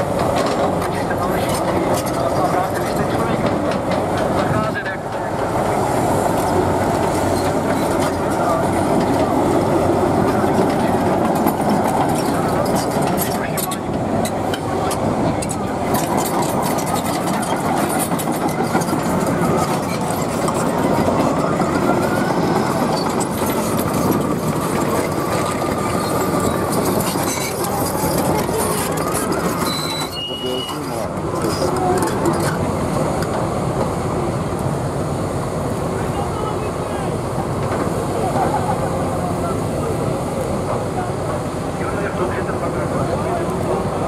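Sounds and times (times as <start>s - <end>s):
diesel truck engine rumbling: 0.0s - 44.0s.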